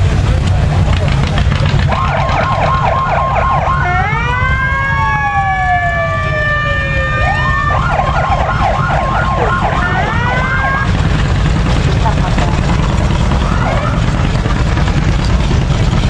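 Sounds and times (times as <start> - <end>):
police sirens yelping and wailing: 0.0 - 16.0
steady low rumble: 0.0 - 16.0.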